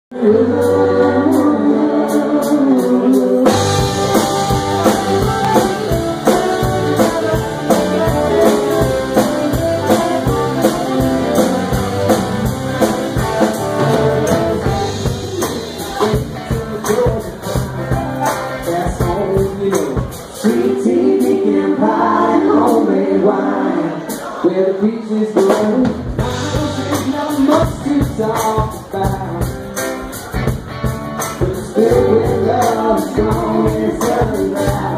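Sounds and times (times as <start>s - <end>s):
live band with vocals: 0.1s - 34.9s.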